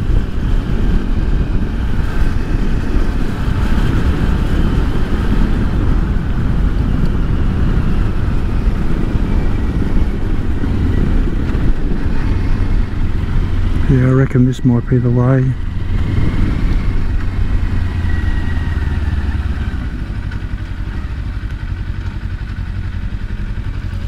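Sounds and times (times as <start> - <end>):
motorcycle engine running: 0.0 - 24.0
wind rush on microphone: 0.0 - 24.0.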